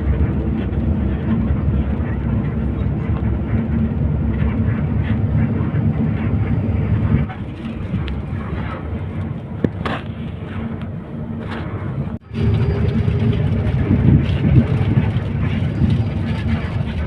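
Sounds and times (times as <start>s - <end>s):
bus engine and road drone: 0.0s - 17.0s.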